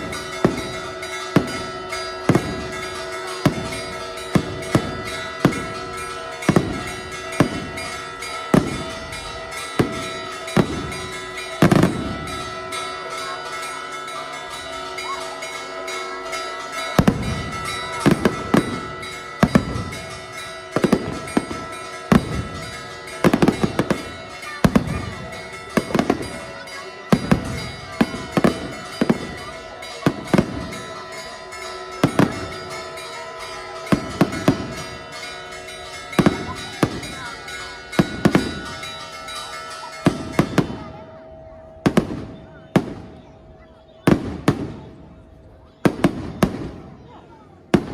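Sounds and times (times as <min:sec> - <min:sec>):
fireworks bangs echoing: 0:00.0 - 0:41.0, 0:41.8 - 0:43.3, 0:44.1 - 0:45.1, 0:45.7 - 0:47.9.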